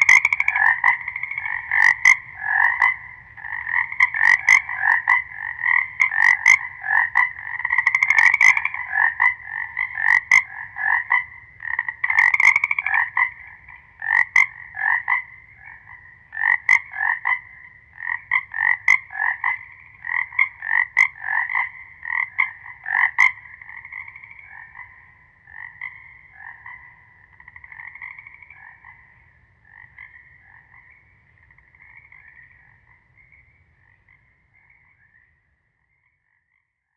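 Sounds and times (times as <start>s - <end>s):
frogs croaking: 0.0s - 36.9s.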